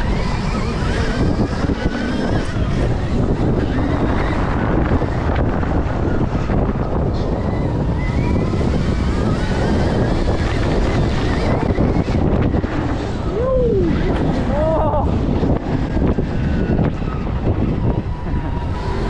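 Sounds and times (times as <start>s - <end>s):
electric motor whine: 0.0s - 19.0s
wind rushing over microphone: 0.0s - 19.0s.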